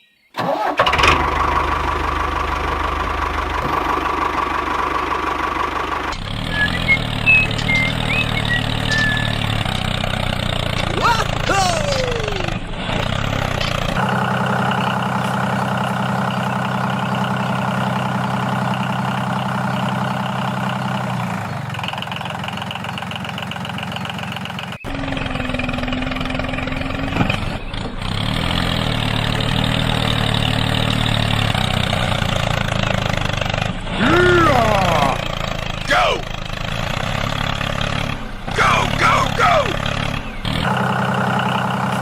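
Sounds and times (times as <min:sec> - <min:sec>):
small tractor motor running: 0:00.4 - 0:42.0.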